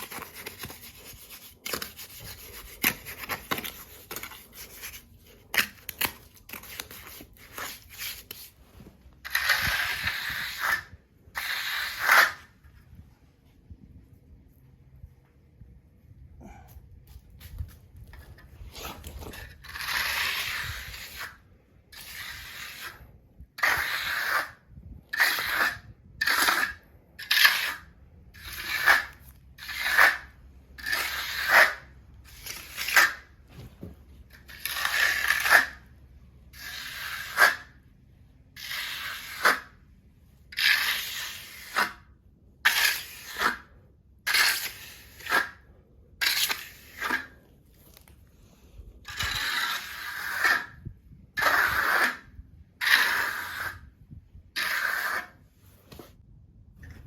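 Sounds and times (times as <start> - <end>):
rough scraping strokes: 0.0 - 12.7, 17.3 - 33.3, 34.3 - 37.8, 38.5 - 56.2.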